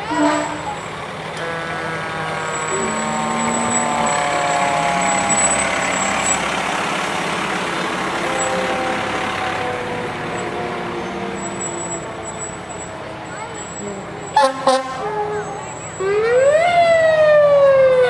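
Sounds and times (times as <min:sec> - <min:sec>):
fire engine diesel driving past: 0:00.0 - 0:18.0.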